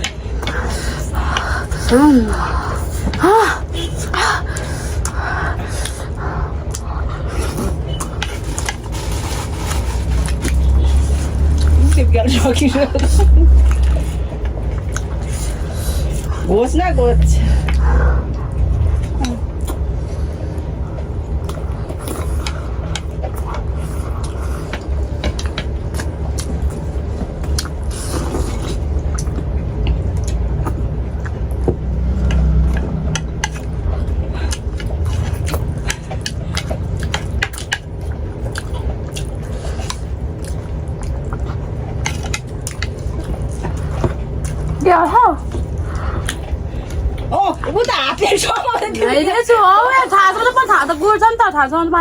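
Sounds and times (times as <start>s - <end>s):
low rumble: 0.0s - 48.1s.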